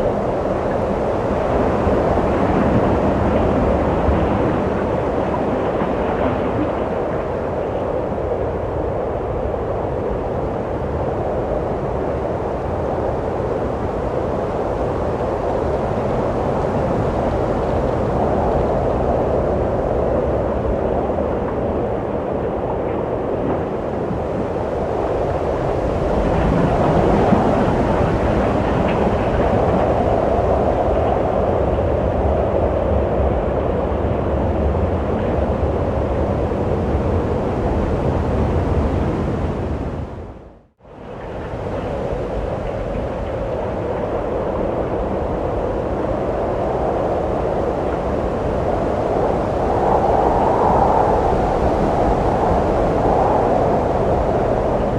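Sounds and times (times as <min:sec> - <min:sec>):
wind blowing: 0:00.0 - 0:54.9.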